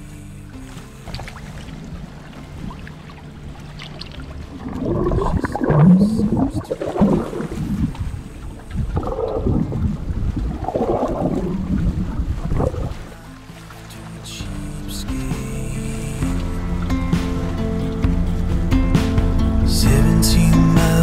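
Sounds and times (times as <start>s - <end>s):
water rushing and bubbling: 0.0s - 19.3s.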